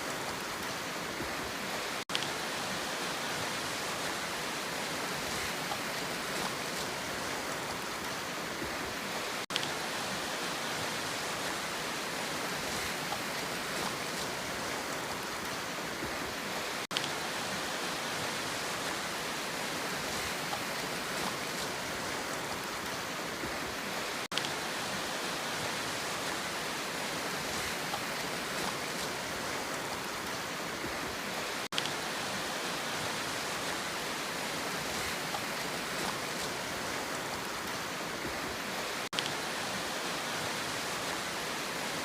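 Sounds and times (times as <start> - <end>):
sea rushing: 0.0 - 42.0.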